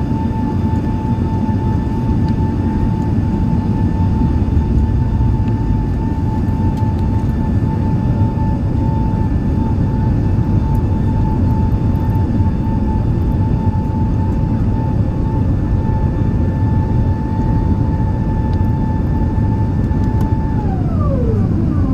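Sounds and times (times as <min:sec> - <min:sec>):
airliner low rumble: 0:00.0 - 0:21.9
high whine: 0:00.0 - 0:21.9.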